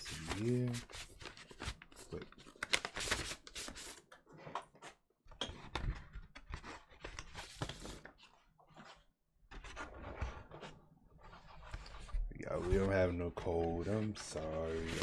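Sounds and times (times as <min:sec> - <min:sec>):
paper sleeves rustling and crinkling: 0:00.0 - 0:04.0, 0:05.7 - 0:15.0.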